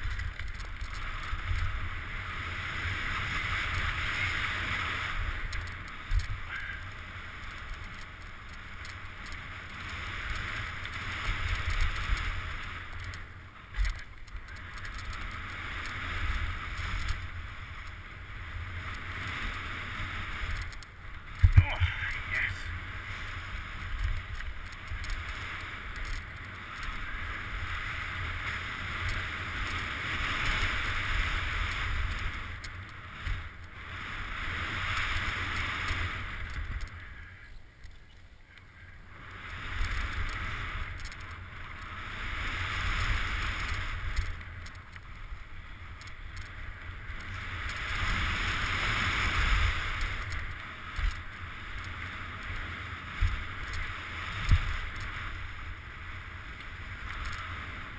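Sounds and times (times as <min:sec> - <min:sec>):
bike tyres hissing on dirt trail: 0:00.0 - 0:57.9
wind rumbling on microphone: 0:00.0 - 0:57.9.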